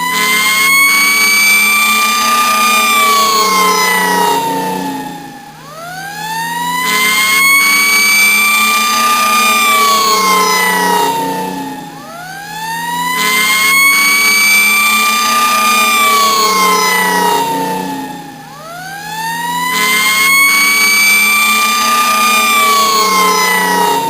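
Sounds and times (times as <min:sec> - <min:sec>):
police siren wailing: 0:00.0 - 0:24.0.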